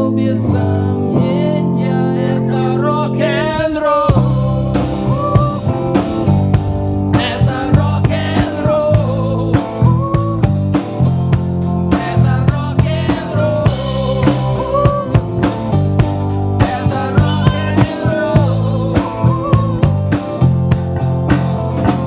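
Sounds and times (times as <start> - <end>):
bass and guitars: 0.0 - 22.0
drum kit beat: 4.1 - 22.0.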